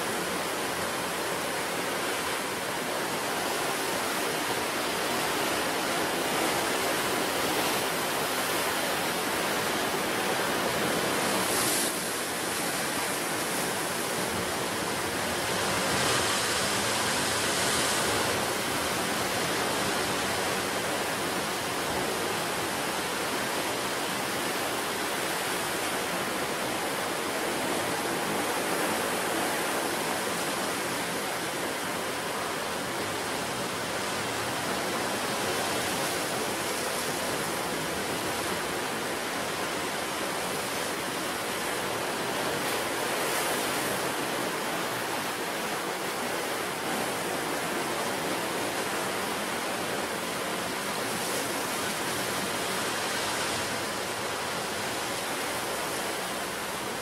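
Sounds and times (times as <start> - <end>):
sea surf on rocks: 0.0 - 57.0.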